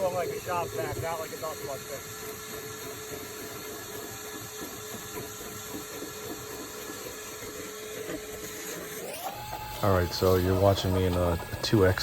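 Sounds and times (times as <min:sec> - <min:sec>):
shop vacuum motor whining: 0:00.0 - 0:12.0.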